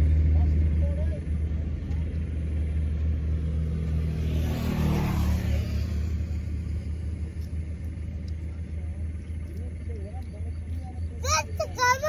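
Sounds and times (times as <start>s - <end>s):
motor vehicle passing by: 0.0s - 12.0s
steady low rumble: 0.0s - 12.0s.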